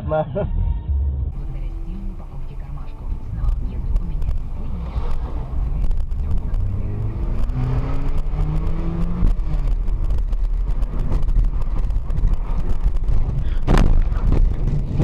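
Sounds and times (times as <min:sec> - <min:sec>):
car engine and road rumble: 0:01.0 - 0:15.0.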